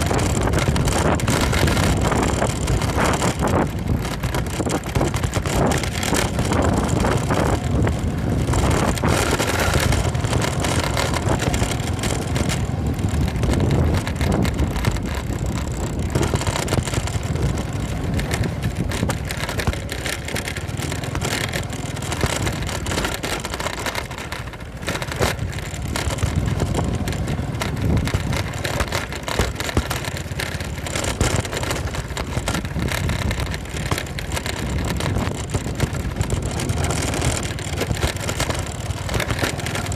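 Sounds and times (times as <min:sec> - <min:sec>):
wind buffeting microphone: 0:00.0 - 0:23.3, 0:24.7 - 0:39.9
motorcycle riding: 0:00.0 - 0:39.9.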